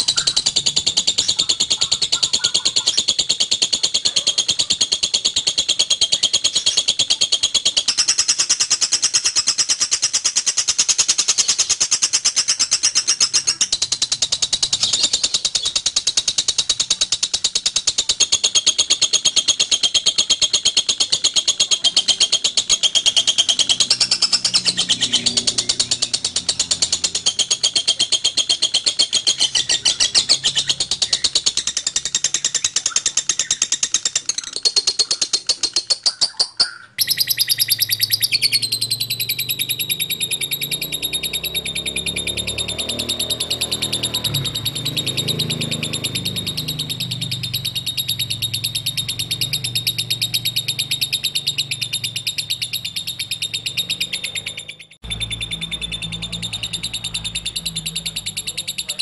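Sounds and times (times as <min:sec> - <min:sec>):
lovebird chattering trill: 0:00.0 - 0:59.0.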